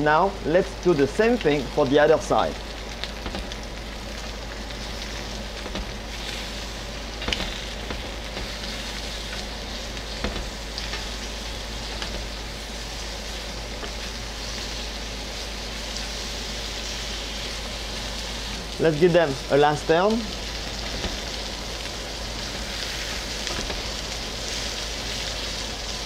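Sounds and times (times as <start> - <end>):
meat sizzling on grill pan: 0.1 - 26.0.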